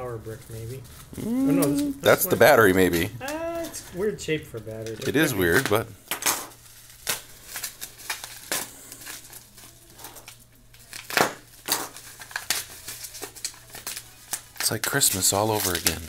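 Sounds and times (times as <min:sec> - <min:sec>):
bubble wrap crinkling and crackling: 0:00.0 - 0:16.0.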